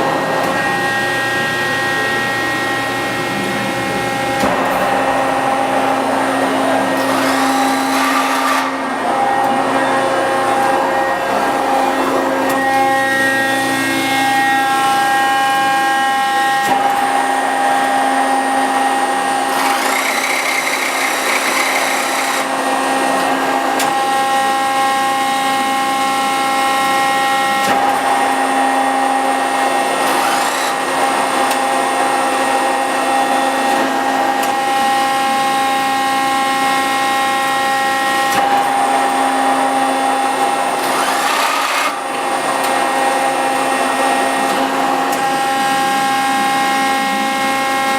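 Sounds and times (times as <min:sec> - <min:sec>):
hydraulic pump whining: 0:00.0 - 0:47.9.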